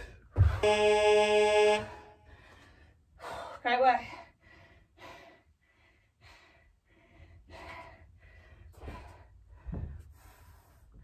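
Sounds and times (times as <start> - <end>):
person breathing hard: 2.1 - 11.0.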